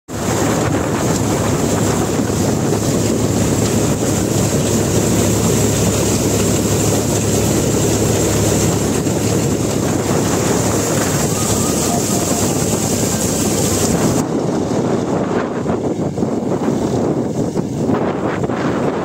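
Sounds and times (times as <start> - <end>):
combine harvester running: 0.1 - 19.0.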